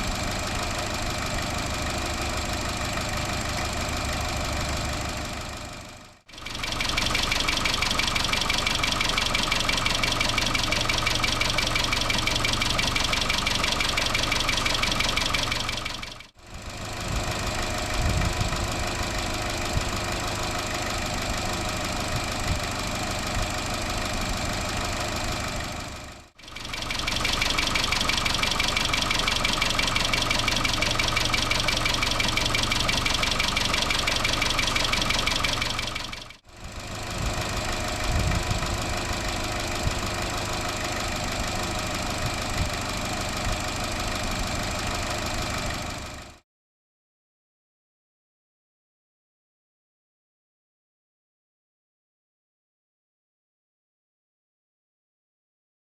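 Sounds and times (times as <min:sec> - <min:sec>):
car engine with rattling lifters: 0:00.0 - 0:46.4.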